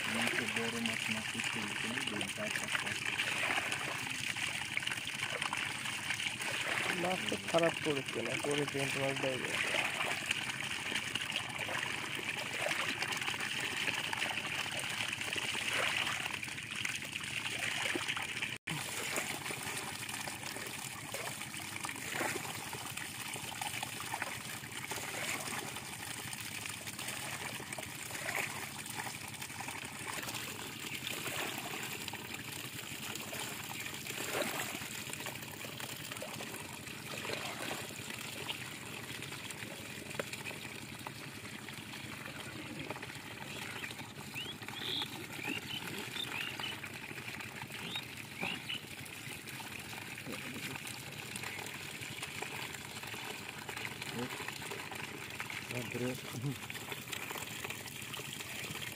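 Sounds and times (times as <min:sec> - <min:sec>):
water pouring and splashing: 0:00.0 - 0:58.9.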